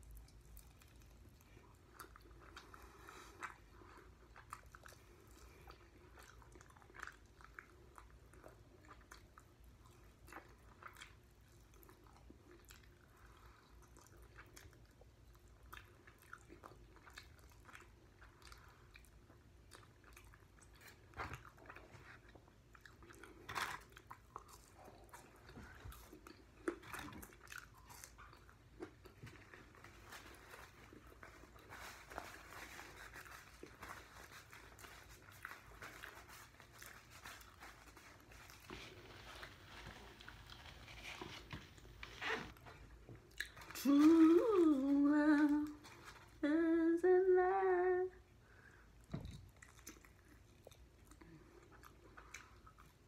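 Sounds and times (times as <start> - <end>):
chewing chicken wings: 0.0 - 39.2, 49.0 - 53.0.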